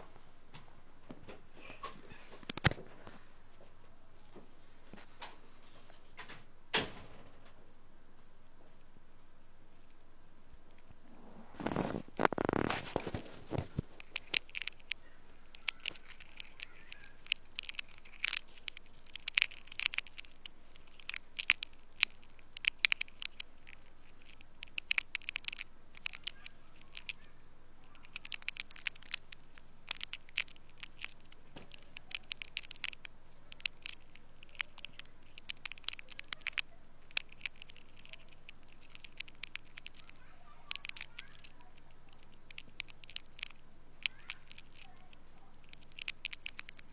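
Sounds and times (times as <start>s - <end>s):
ear cleaning crackles and scratches: 1.6s - 3.2s, 10.8s - 46.9s.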